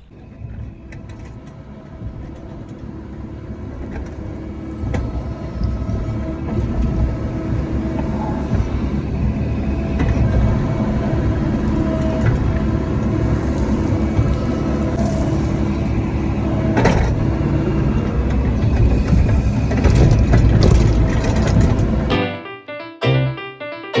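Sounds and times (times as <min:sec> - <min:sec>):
excavator diesel engine running: 0:00.0 - 0:22.2.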